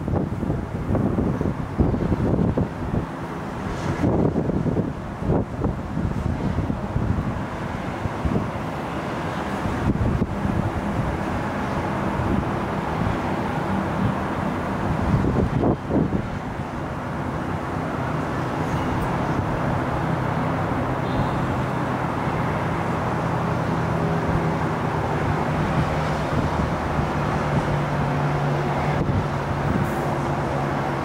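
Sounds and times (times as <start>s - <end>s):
distant road traffic rumble: 0.0s - 31.0s.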